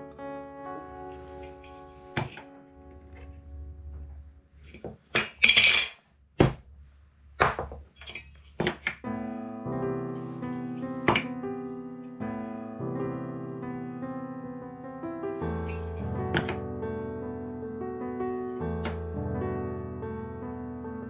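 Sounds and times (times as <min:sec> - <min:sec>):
background piano music: 0:00.0 - 0:05.8, 0:08.1 - 0:21.0.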